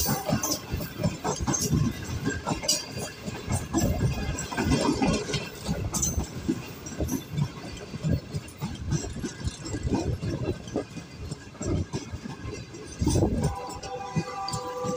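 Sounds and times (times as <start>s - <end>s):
train coaches rumbling past: 0.0s - 14.9s
wheels clattering on track: 0.0s - 14.9s.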